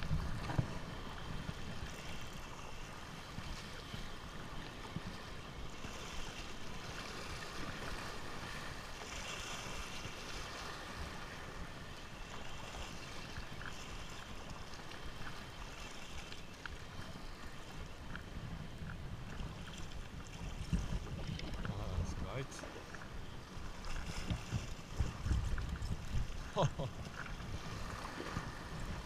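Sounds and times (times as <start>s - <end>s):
light wind: 0.0s - 29.0s
sea water lapping: 0.0s - 29.0s.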